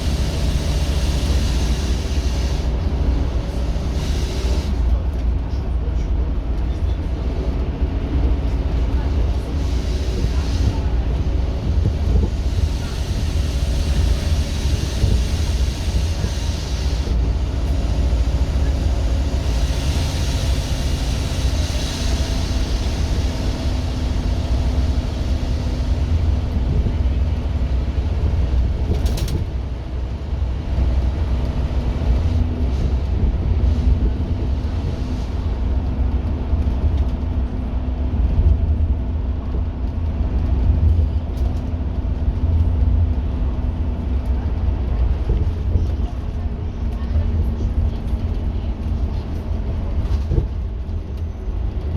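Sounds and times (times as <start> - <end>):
bus diesel engine pulling hard: 0.0 - 51.9
road noise: 0.0 - 51.9.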